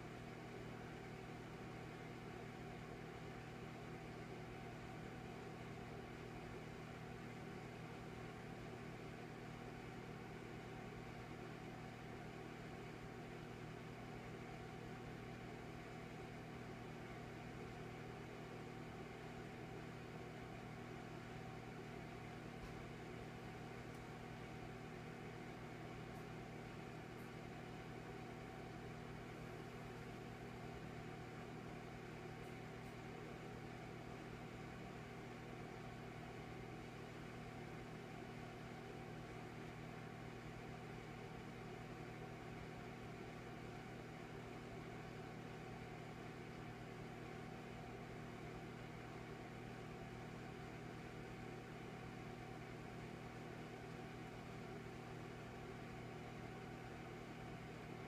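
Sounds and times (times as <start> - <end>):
fireplace motor and fan hum: 0.0 - 58.0.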